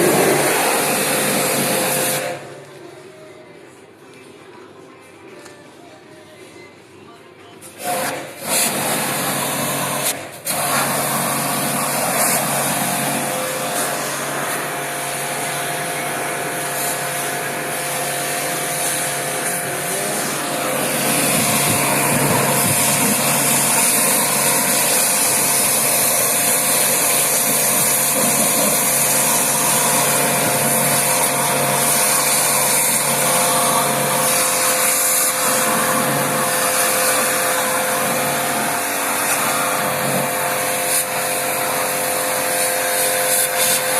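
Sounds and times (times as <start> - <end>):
electric cleaning machine hissing: 0.0 - 2.6, 7.8 - 43.9.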